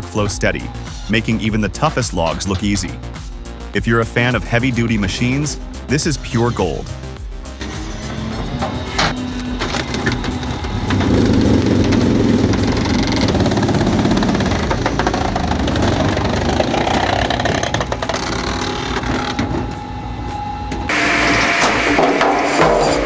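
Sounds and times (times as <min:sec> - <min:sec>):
machine engine running: 0:02.1 - 0:23.0.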